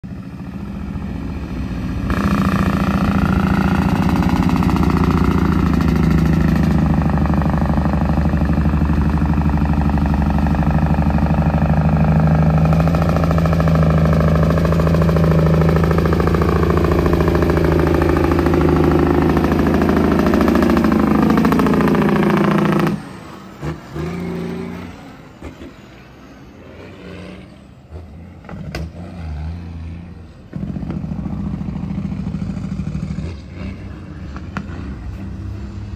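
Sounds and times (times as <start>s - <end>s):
dump truck diesel engine: 0.0s - 35.9s.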